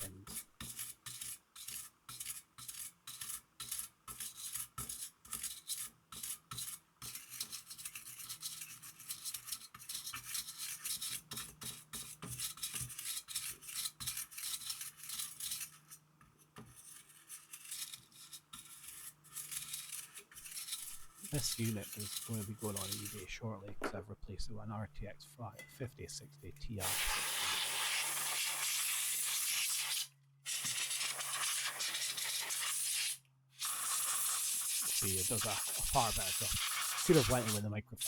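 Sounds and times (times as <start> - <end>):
brush scratching heatsink: 0.0 - 23.4, 26.1 - 37.7.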